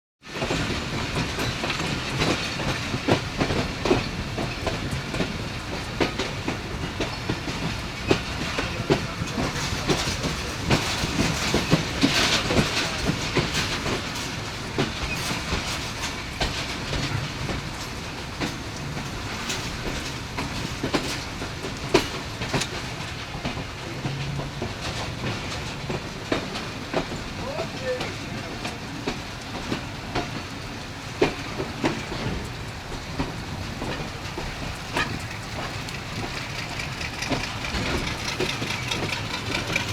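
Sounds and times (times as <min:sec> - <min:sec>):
train rumble: 0:00.2 - 0:39.9
train wheels clacking over rail joints: 0:00.2 - 0:39.9.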